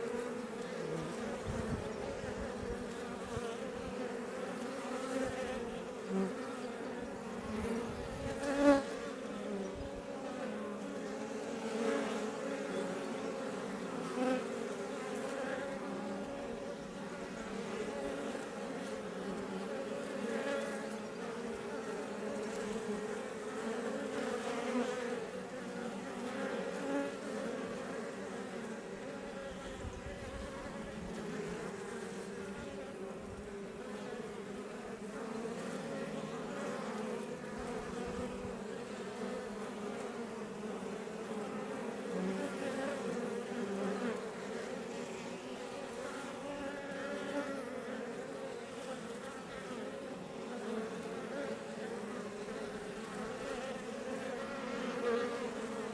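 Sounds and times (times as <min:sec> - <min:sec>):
bees passing close: 0:00.0 - 0:55.9
honey bees buzzing: 0:00.0 - 0:55.9.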